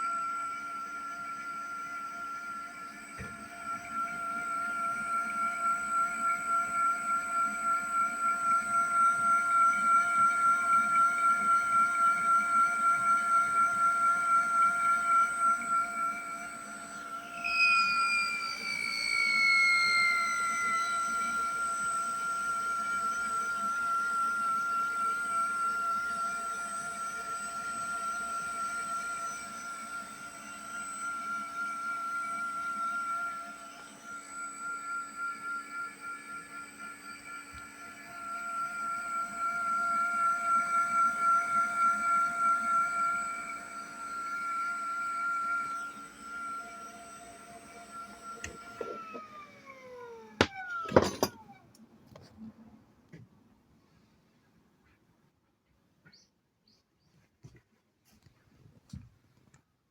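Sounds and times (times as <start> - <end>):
pump motor whining and throbbing: 0.0 - 52.2.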